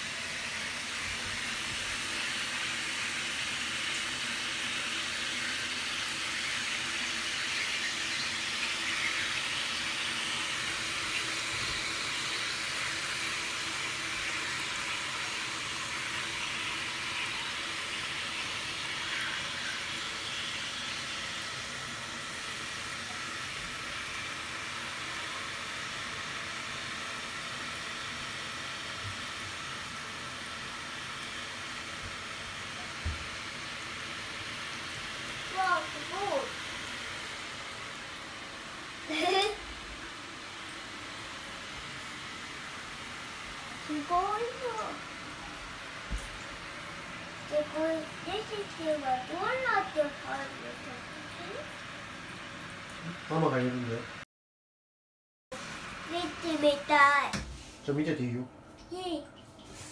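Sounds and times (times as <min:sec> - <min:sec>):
shower head spraying water: 0:00.0 - 0:54.2, 0:59.5 - 0:59.9.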